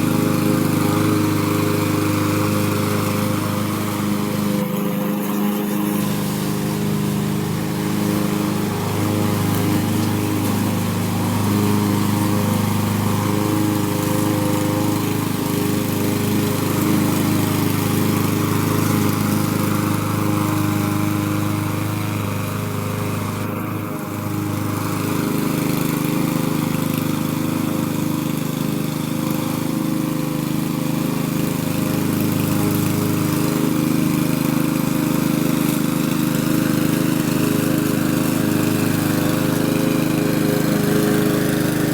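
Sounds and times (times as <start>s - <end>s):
lawn mower cutting grass: 0.0s - 41.9s.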